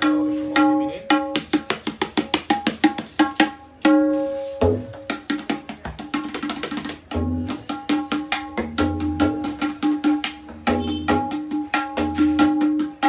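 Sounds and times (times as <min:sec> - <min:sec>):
treble tabla ringing strokes: 0:00.0 - 0:13.0.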